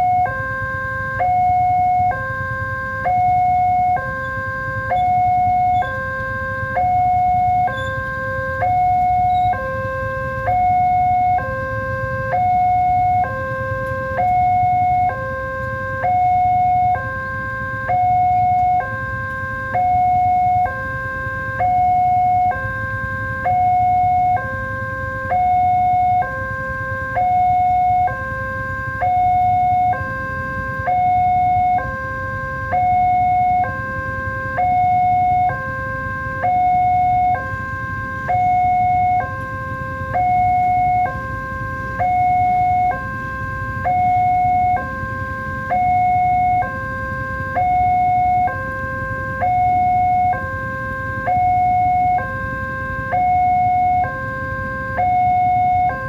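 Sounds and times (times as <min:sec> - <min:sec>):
level crossing two-tone alarm: 0:00.0 - 0:56.0.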